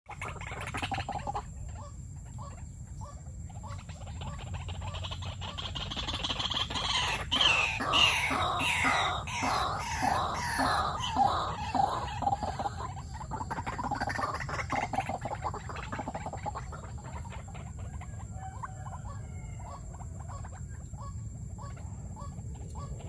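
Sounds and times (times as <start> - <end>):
waterhens calling harshly: 0.1 - 23.0.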